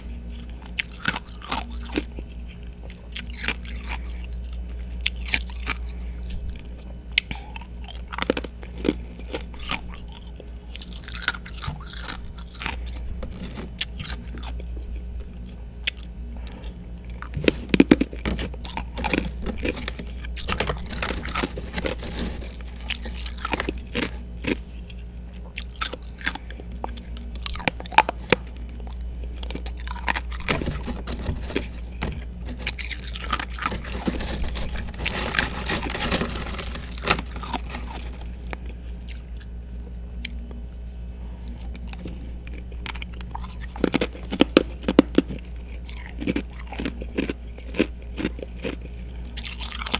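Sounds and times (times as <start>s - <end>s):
person chewing ice: 0.3s - 6.4s, 7.1s - 39.5s, 41.6s - 49.9s.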